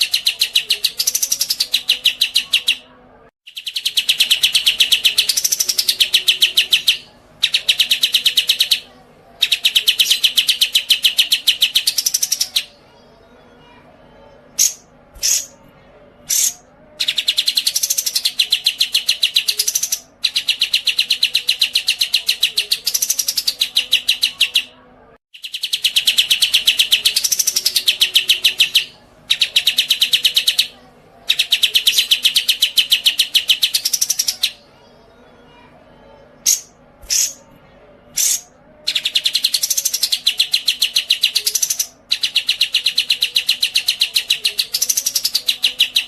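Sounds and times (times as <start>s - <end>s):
songbird chirping and trilling: 0.0s - 46.0s.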